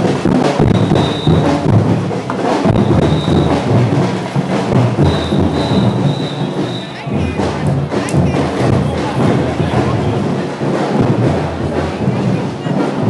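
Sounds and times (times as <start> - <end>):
marching drum band: 0.0 - 13.0.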